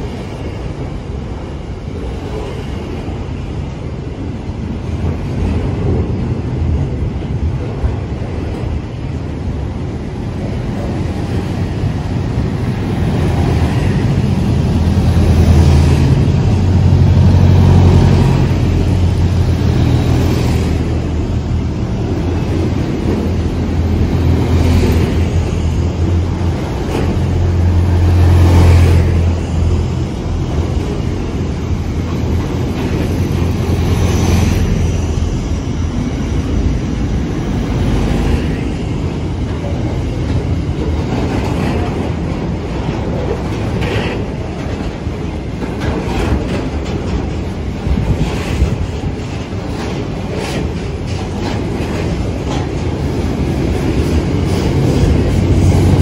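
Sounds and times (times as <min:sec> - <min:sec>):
diesel locomotive engine drone: 0:00.0 - 0:56.0
train wheels clattering over rails: 0:04.6 - 0:56.0.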